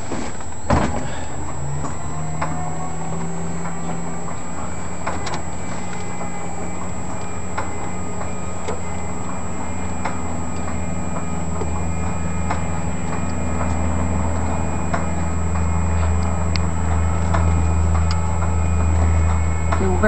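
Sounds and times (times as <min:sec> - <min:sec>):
aircraft engine cranking: 0:00.0 - 0:20.0.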